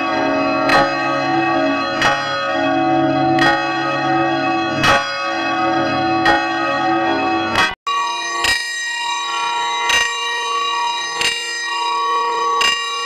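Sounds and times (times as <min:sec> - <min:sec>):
church bell tolling: 0:00.0 - 0:13.0.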